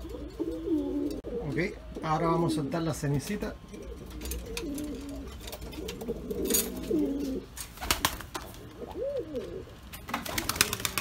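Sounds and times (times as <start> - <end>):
pigeons cooing: 0.0 - 3.0, 3.6 - 11.0.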